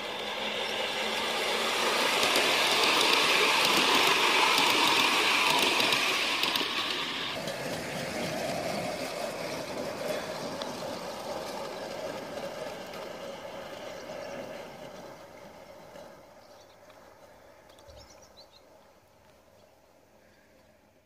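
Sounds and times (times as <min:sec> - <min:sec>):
wheels hissing on rails: 0:00.0 - 0:18.8
model train hum: 0:00.0 - 0:21.0.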